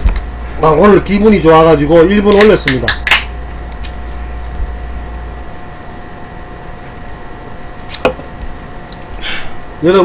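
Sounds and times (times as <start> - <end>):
room hum and hiss: 0.0 - 10.0.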